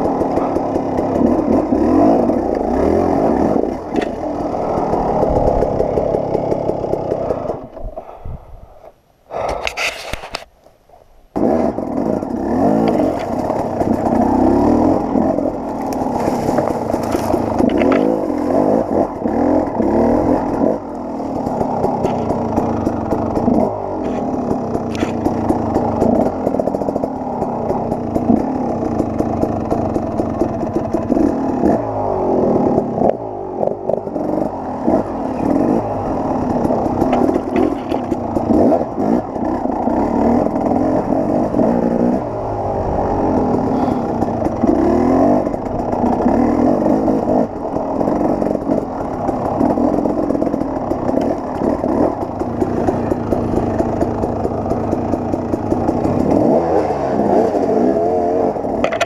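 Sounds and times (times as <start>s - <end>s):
dirt bike engine under load: 0.0s - 8.2s, 8.8s - 10.5s, 11.3s - 59.0s.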